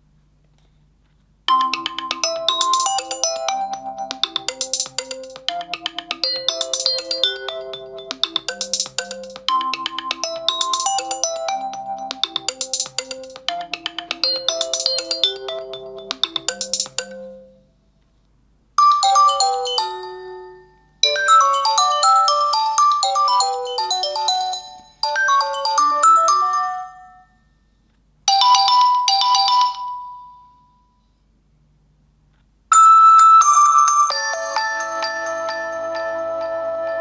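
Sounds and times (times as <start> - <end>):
chiming electronic ringtone melodies: 1.5 - 17.6, 18.8 - 27.6, 28.3 - 31.0, 32.7 - 37.0.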